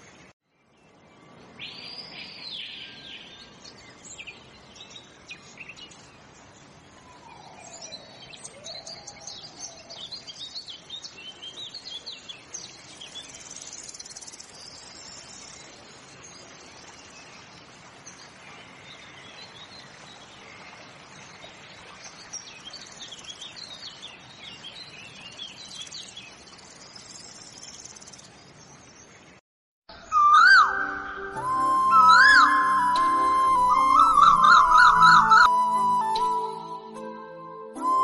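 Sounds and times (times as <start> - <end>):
faint steady hiss: 0.0 - 35.2
small birds chirping: 0.0 - 36.7.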